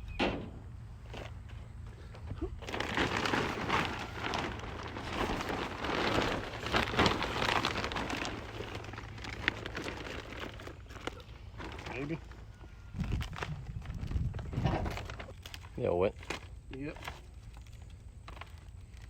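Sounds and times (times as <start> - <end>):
plastic and paper crinkling: 2.5 - 19.0.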